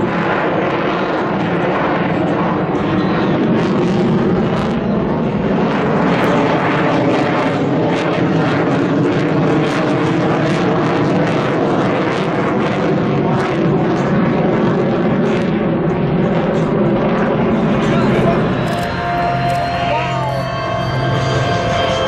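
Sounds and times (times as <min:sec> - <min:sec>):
low-flying aircraft engine: 0:00.0 - 0:22.0.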